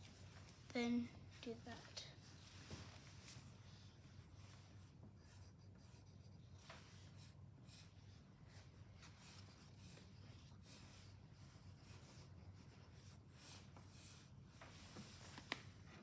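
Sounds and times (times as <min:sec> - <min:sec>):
pencil scratching on paper: 0:01.4 - 0:15.2.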